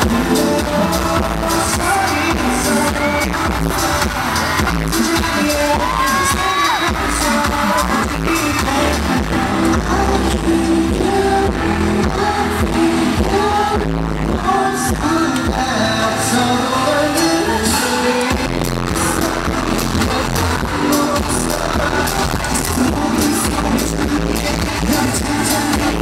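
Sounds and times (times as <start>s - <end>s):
pop song with singing over a beat: 0.0s - 26.0s.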